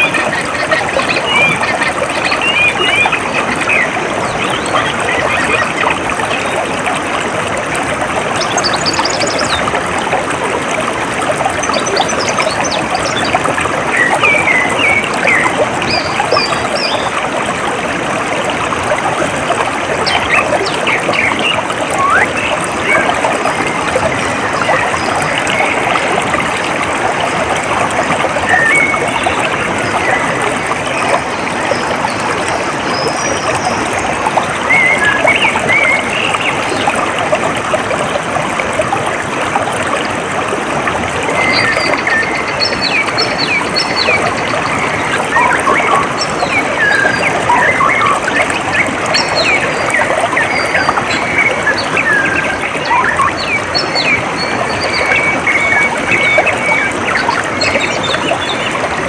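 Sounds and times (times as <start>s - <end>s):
water trickling in a stream: 0.0s - 59.0s.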